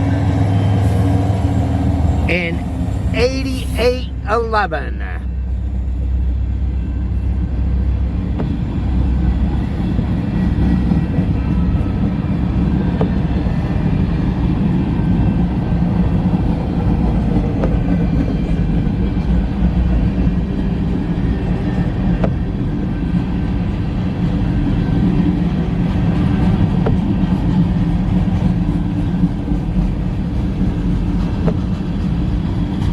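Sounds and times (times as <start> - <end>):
freight train wheels rumbling: 0.0 - 32.9.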